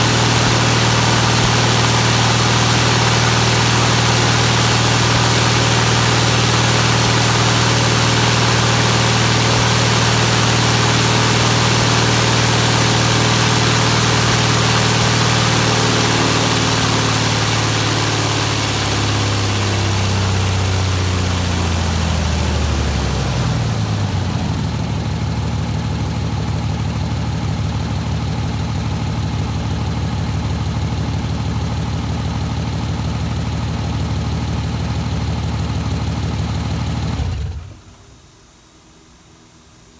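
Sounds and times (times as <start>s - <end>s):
aircraft engine with propeller: 0.0s - 38.7s.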